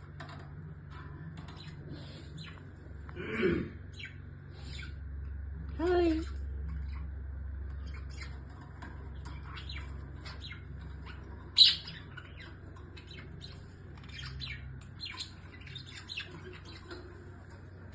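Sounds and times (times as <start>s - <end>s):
flock of birds chirping: 0.0s - 3.0s, 3.9s - 5.3s, 5.9s - 17.9s
low background hum: 0.0s - 17.9s.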